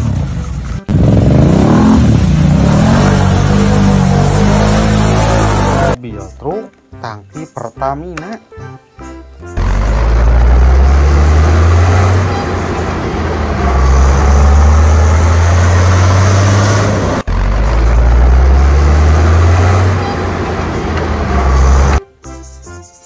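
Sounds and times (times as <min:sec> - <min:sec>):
heavy truck engine droning: 0:00.0 - 0:06.0, 0:09.5 - 0:22.0.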